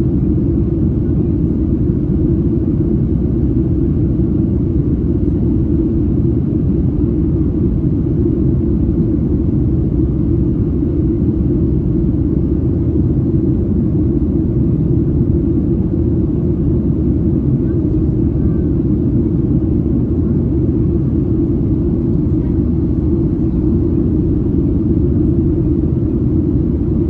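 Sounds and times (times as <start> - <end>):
airliner cabin rumble: 0.0 - 27.0.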